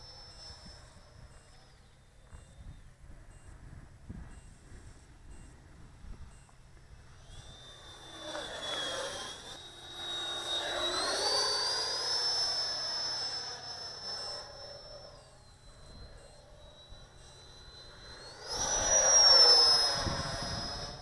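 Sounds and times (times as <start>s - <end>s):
model jet fan whining past: 0.0s - 21.0s.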